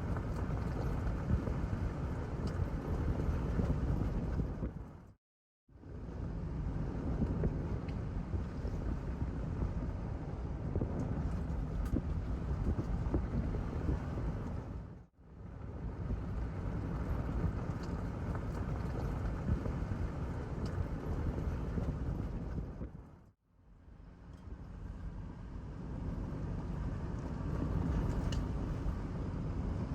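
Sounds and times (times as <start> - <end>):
wind noise: 0.0 - 5.1, 5.8 - 23.2, 25.9 - 29.9
car driving on dirt road: 0.0 - 5.2, 5.8 - 29.9.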